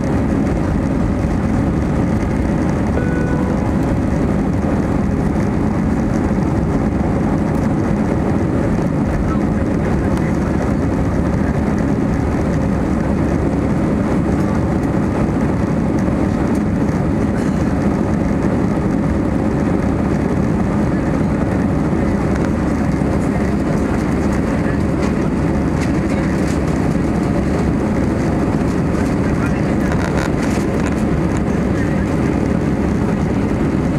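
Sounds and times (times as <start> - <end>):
airplane cabin engine rush: 0.0 - 33.9.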